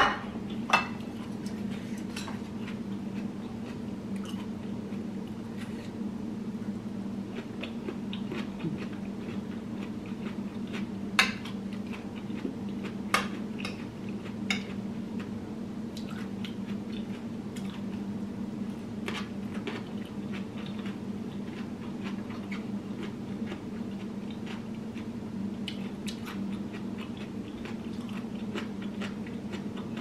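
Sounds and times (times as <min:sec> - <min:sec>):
steady low hum: 0:00.0 - 0:30.0
person chewing food: 0:00.5 - 0:05.9, 0:07.3 - 0:18.1, 0:19.0 - 0:30.0.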